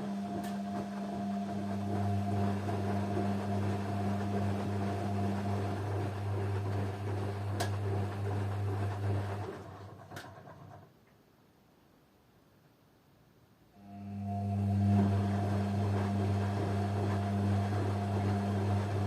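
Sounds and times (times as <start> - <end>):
washing machine motor hum: 0.0 - 10.9, 13.8 - 19.0.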